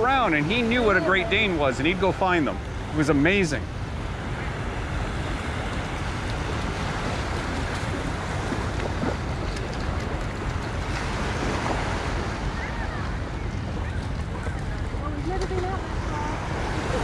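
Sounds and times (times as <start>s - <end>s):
small ocean waves breaking: 0.0s - 17.0s
wind rumbling on microphone: 0.0s - 17.0s.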